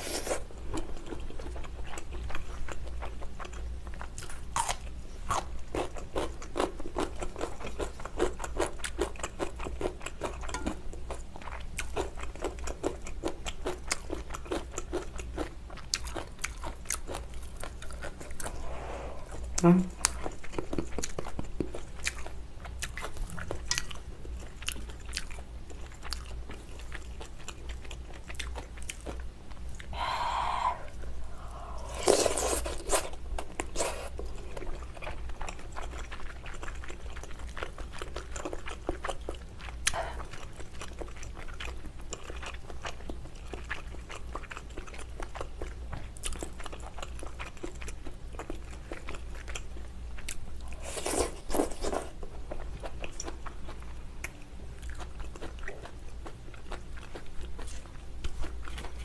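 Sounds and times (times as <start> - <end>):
close chewing and crunching: 0.0 - 18.5, 19.9 - 30.0, 31.3 - 59.0
steady low hum: 0.0 - 59.0.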